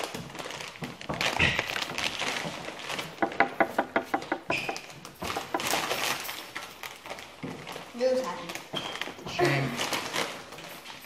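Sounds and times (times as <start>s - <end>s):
plastic snack bag crinkling: 0.0s - 3.4s, 4.6s - 11.0s.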